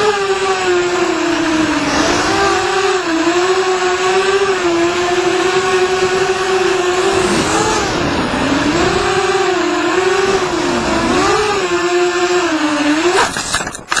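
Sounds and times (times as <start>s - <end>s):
drone propellers whining: 0.0s - 13.7s.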